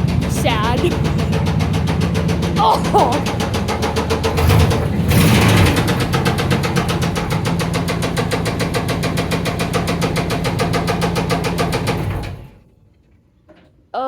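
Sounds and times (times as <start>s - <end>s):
engine running with fast knock: 0.0s - 12.7s.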